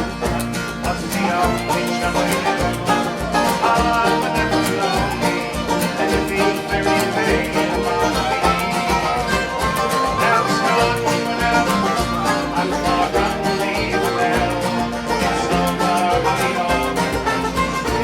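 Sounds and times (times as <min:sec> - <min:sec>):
band playing folk song: 0:00.0 - 0:18.0.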